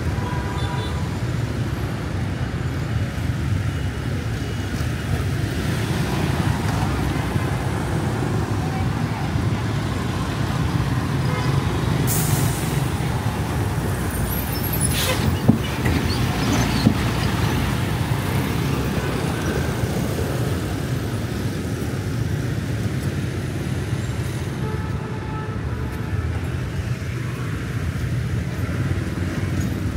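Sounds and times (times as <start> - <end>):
vehicle engine rumbling: 1.2 - 29.9.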